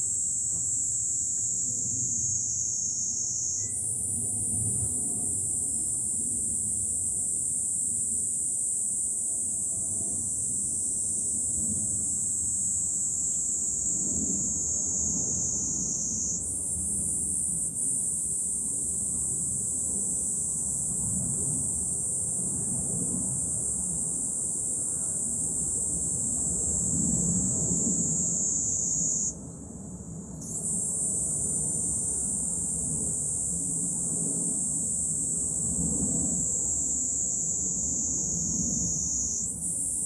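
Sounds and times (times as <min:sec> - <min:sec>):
cicadas buzzing: 0:00.0 - 0:29.4, 0:30.4 - 0:40.0.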